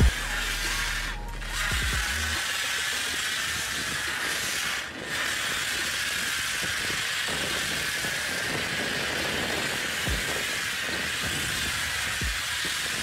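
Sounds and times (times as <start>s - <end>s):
pressure washer foam spraying hiss: 1.8s - 13.0s.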